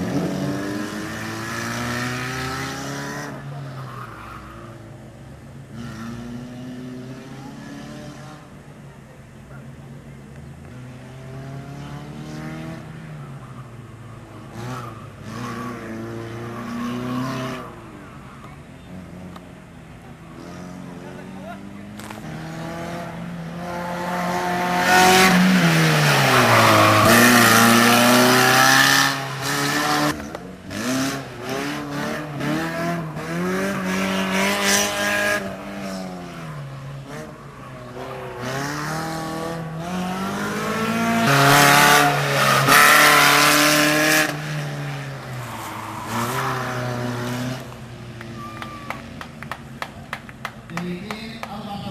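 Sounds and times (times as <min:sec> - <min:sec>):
rally car engine revving: 0:00.0 - 0:04.8, 0:05.6 - 0:08.5, 0:14.3 - 0:19.5, 0:20.2 - 0:49.5.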